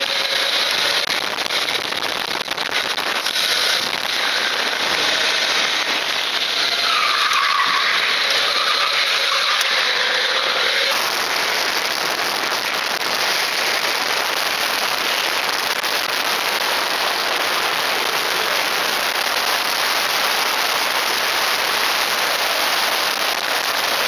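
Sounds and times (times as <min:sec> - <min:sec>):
vehicle engine: 0:00.0 - 0:24.0.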